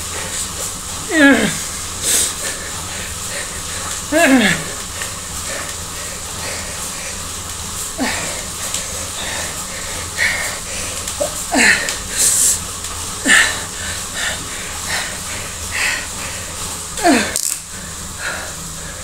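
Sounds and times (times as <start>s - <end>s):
steady low hum: 0.0s - 19.0s
man panting hard: 0.2s - 7.3s, 8.0s - 12.6s, 13.2s - 19.0s.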